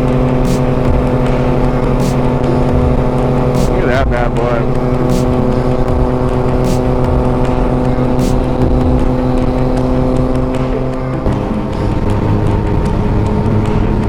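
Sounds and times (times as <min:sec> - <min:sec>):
motorcycle engine cruising: 0:00.0 - 0:14.0
road and wind noise: 0:00.0 - 0:14.0.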